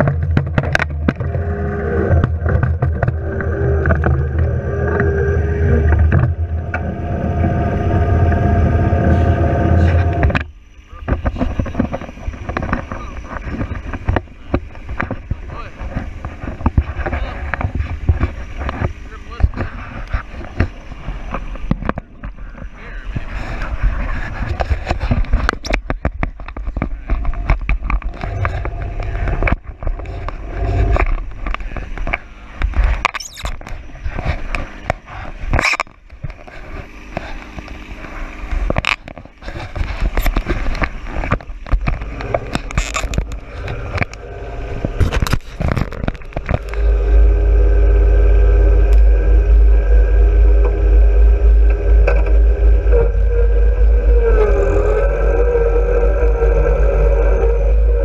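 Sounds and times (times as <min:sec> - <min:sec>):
tractor diesel engine running: 0:00.0 - 0:33.0, 0:36.3 - 0:58.0
loader scraping and knocking snow: 0:00.0 - 0:58.0.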